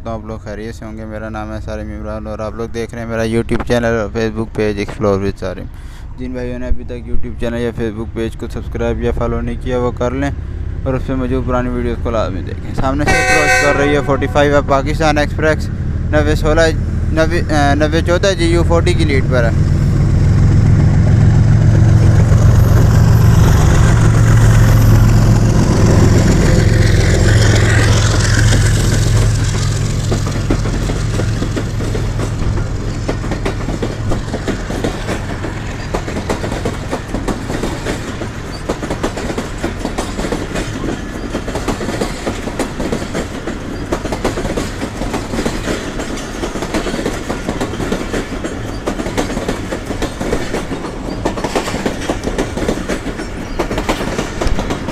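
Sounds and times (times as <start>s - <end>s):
locomotive engine hum: 7.8s - 54.9s
coaches clattering over rail joints: 11.0s - 54.9s.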